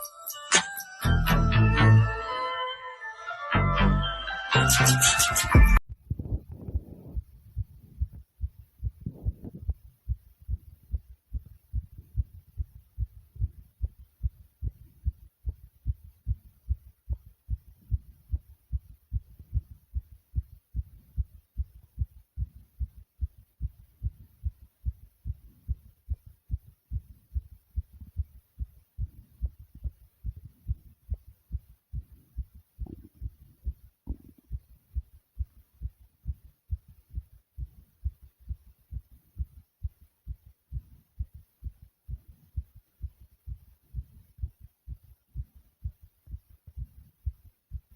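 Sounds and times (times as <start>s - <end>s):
heart beating fast: 5.6s - 47.9s.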